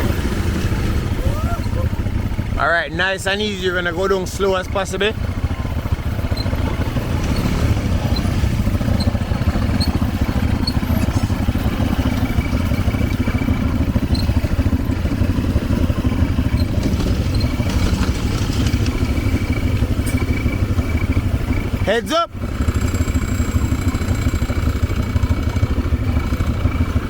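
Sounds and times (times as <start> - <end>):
atv engine throbbing at low revs: 0.0 - 27.0.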